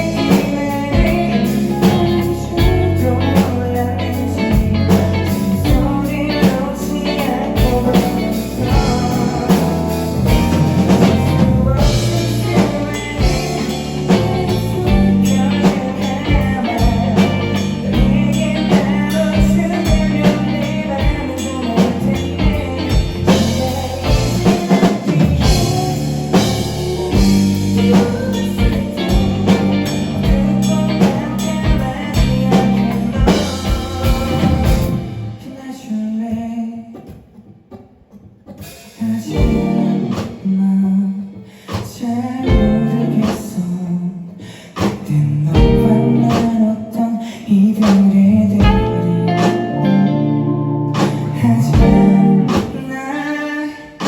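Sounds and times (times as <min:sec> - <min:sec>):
bass guitar: 0:00.0 - 0:35.6, 0:39.0 - 0:41.4, 0:42.0 - 0:53.5
drum kit: 0:00.0 - 0:50.2, 0:50.8 - 0:54.0
electric guitar: 0:00.0 - 0:54.0.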